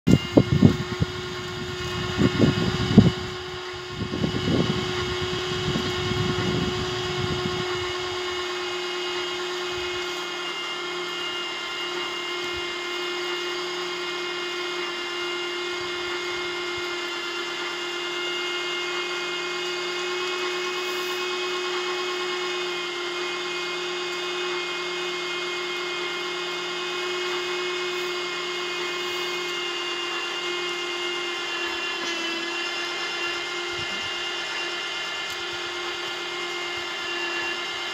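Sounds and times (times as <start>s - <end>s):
motor whining steadily: 0.1s - 37.9s.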